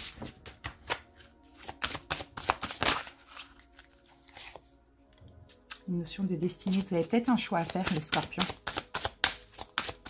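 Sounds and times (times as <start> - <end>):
cards being shuffled by hand: 0.0 - 4.7, 6.6 - 10.0.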